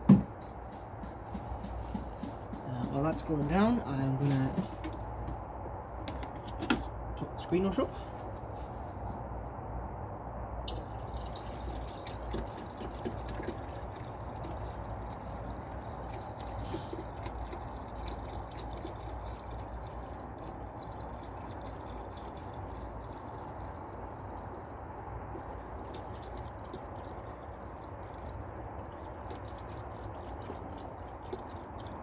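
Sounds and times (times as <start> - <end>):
liquid pouring trickle: 0.0 - 9.1, 10.6 - 32.0.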